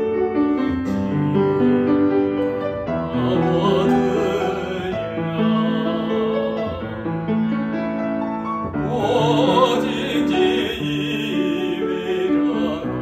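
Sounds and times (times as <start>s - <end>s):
piano accompaniment: 0.0s - 13.0s
man singing classical style: 0.4s - 13.0s.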